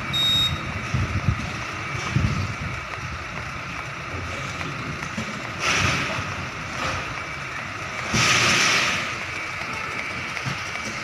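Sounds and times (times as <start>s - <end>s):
truck engine running low: 0.0s - 11.0s.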